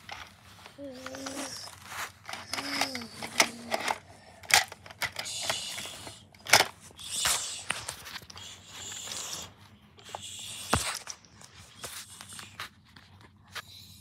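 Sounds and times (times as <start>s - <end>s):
plastic toys clicking and knocking: 0.0s - 12.6s
rustling: 0.0s - 13.6s.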